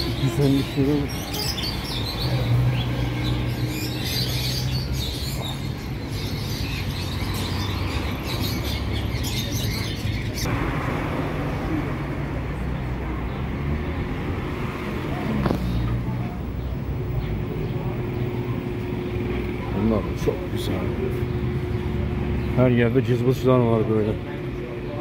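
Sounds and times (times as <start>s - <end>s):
small caged birds chirping: 0.0s - 10.5s, 12.6s - 14.2s, 14.8s - 25.0s
street traffic hum: 0.0s - 25.0s.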